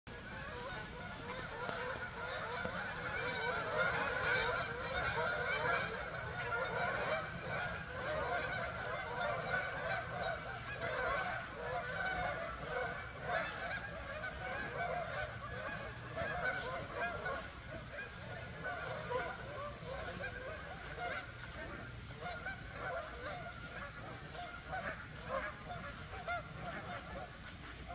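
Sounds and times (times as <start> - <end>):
flock of geese honking: 0.1 - 27.9.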